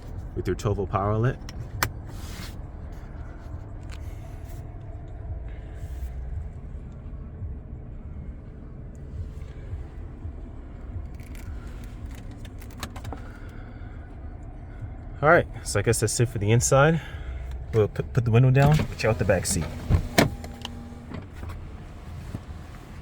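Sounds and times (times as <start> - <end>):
car engine idling: 0.0 - 23.0
light clicks of interior parts: 0.0 - 23.0.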